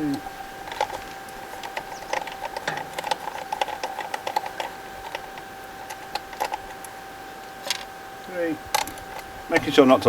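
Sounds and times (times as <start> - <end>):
faint steady tone: 0.0 - 10.0.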